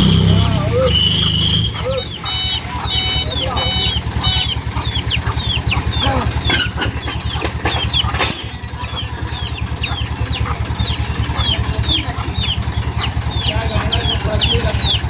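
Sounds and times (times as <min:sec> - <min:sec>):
birds chirping: 0:00.0 - 0:15.0
diesel engine idling: 0:00.0 - 0:15.0.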